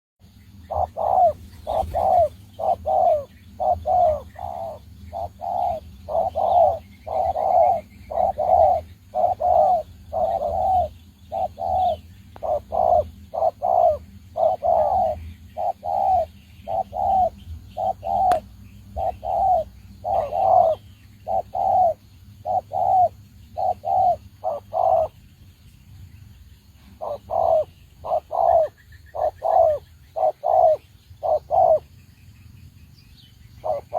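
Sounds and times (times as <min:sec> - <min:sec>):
small bird chirps: 0:00.2 - 0:33.9
dove cooing: 0:00.6 - 0:25.3, 0:26.8 - 0:31.9, 0:33.6 - 0:33.9.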